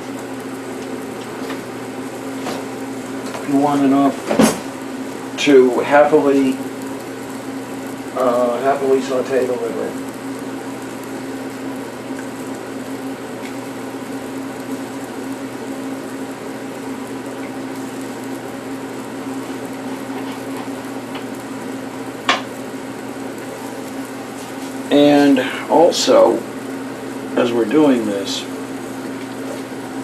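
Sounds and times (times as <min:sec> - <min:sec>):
liver sizzling in a pan: 0:00.0 - 0:30.0
mechanical hum: 0:00.0 - 0:30.0.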